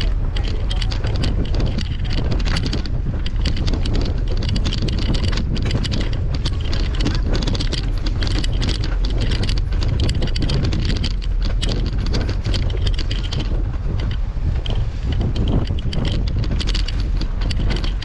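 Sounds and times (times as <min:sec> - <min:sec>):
bicycle rattling over stone paving: 0:00.0 - 0:18.0
wind noise on microphone: 0:00.0 - 0:18.0.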